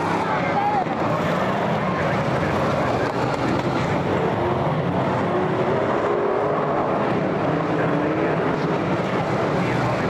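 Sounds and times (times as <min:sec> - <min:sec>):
race car engines roaring: 0:00.0 - 0:10.0.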